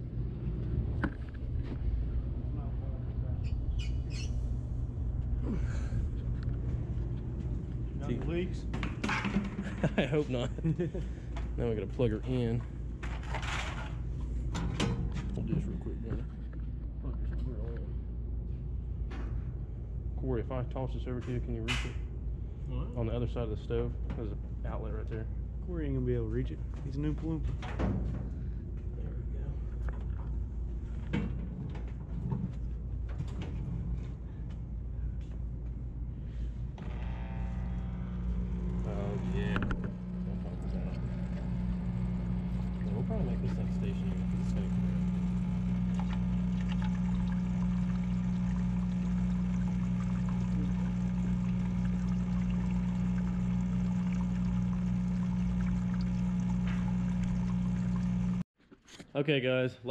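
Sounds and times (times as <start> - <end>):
steady low hum: 0.0 - 58.5.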